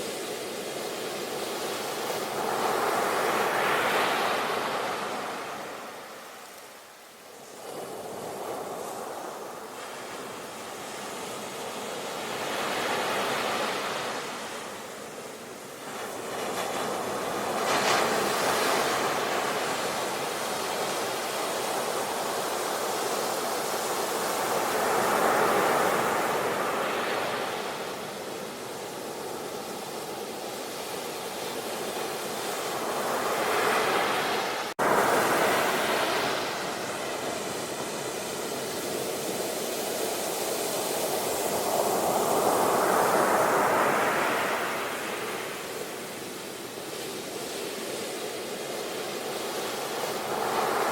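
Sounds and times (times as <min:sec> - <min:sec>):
sea waves breaking on shore: 0:00.0 - 0:50.9.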